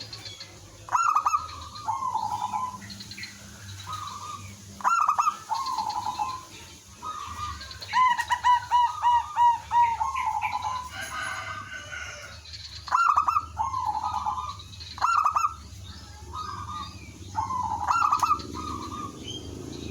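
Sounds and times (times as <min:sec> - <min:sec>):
doves cooing: 0:00.0 - 0:19.9.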